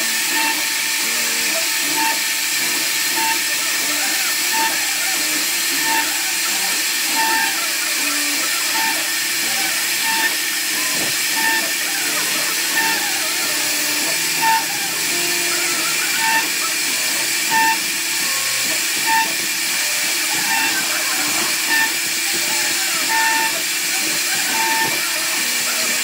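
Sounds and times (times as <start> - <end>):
wood router hissing: 0.0 - 26.0.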